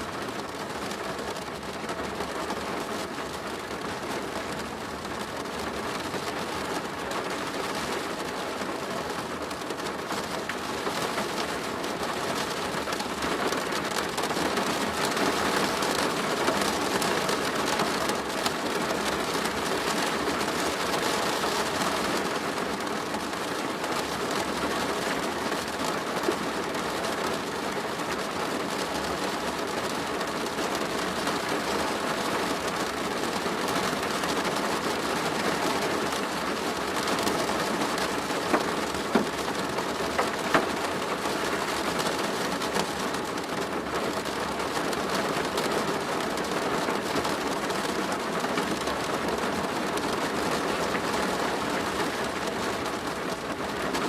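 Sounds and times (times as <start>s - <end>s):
rain on a plastic roof: 0.0s - 54.0s.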